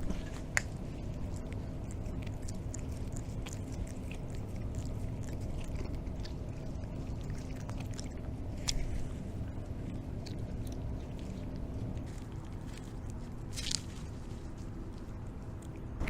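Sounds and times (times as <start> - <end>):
cats chewing: 0.0 - 16.0
low rumble: 0.0 - 16.0.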